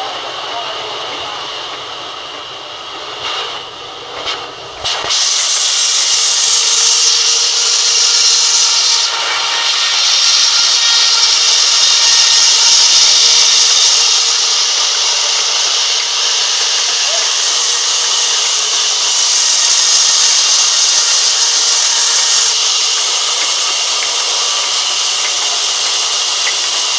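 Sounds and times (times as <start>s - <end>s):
band saw cutting log: 3.2s - 26.9s.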